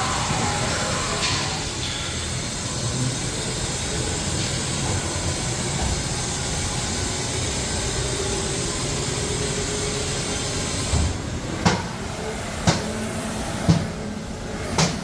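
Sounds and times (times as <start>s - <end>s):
machining center hiss: 0.0s - 15.0s.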